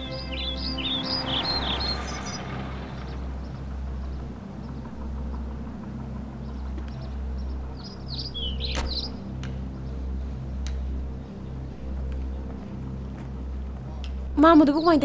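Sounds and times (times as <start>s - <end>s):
steady low rumble: 0.0s - 14.6s
birds chirping: 0.0s - 15.0s.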